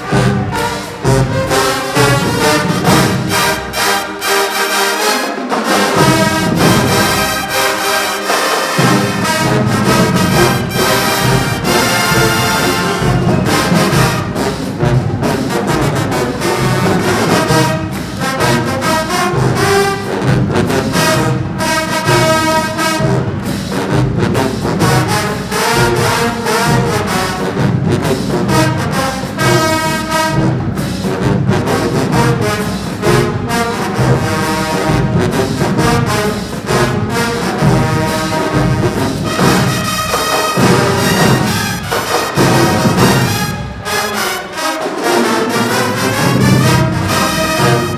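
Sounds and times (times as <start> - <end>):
marching band brass playing: 0.0 - 47.9
steady drumbeat: 0.0 - 47.9.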